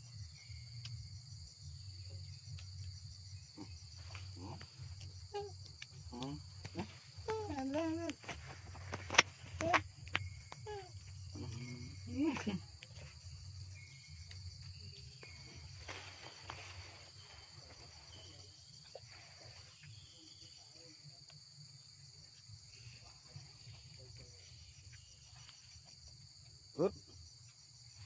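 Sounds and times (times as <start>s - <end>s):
insect chorus buzzing: 0.0s - 28.0s.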